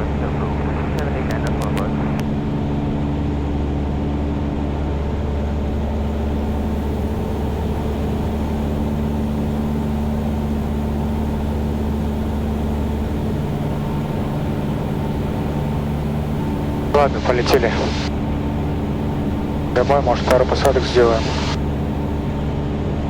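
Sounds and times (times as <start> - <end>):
aircraft engine droning: 0.0 - 23.0.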